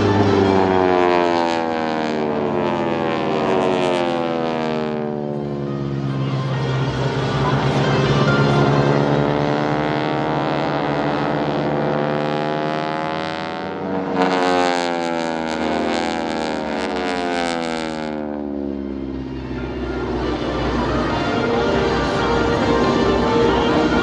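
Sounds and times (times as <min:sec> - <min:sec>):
propeller airplanes passing overhead: 0:00.0 - 0:24.0.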